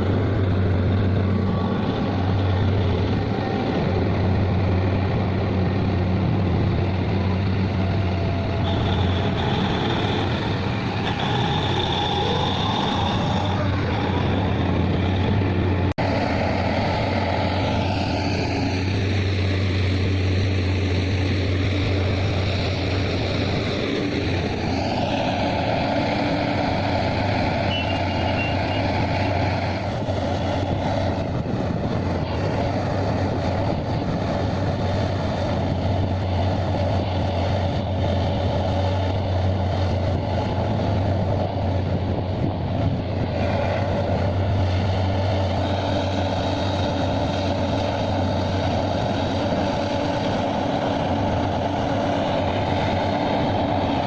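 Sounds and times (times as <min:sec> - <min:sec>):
diesel machinery engine drone: 0:00.0 - 0:54.0.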